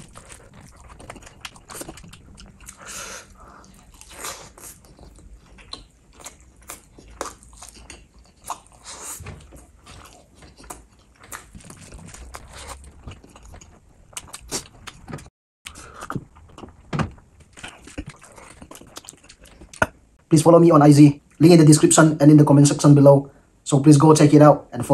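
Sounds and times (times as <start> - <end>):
wet chewing and crunching: 0.0 - 20.2.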